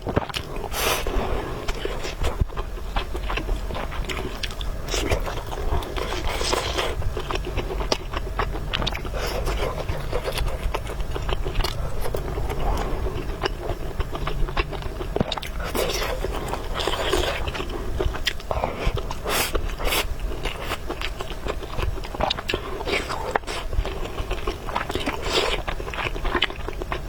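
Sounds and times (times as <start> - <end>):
noodles slurped and chewed: 0.1 - 27.0.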